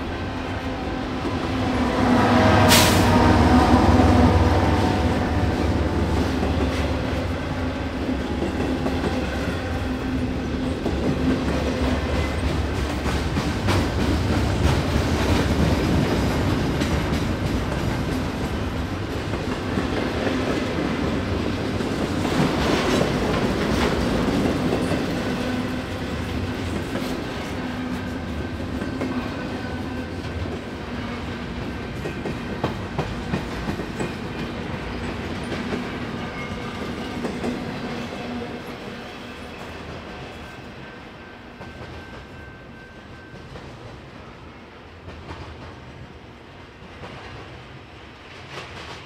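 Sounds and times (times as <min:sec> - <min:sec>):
freight train rolling past: 0:00.0 - 0:49.0.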